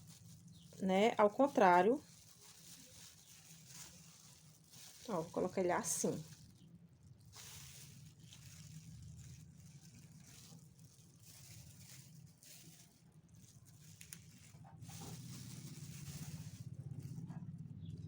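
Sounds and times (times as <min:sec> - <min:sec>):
sticker rustling and handling: 0:00.0 - 0:17.5.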